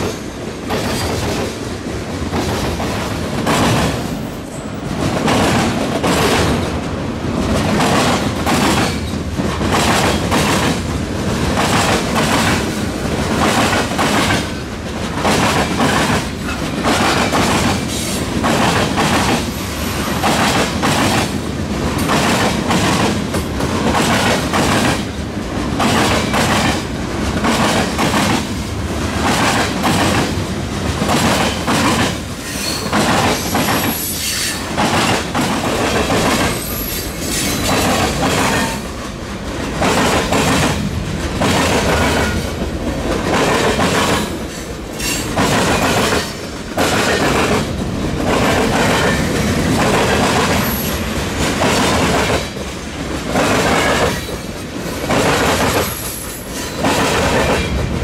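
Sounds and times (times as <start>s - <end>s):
train wheels clattering over rail joints: 2.3s - 28.5s, 29.1s - 52.6s, 53.2s - 57.9s.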